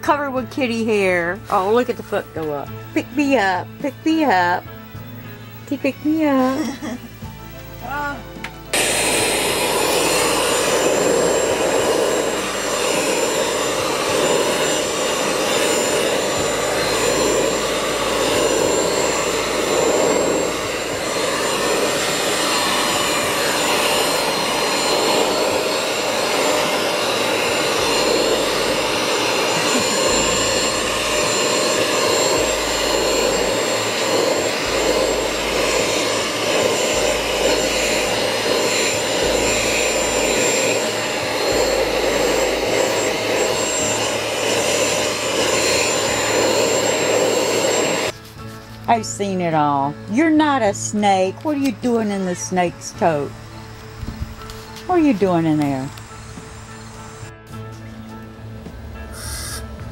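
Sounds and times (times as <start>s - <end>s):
vacuum cleaner whining: 0.0s - 59.9s.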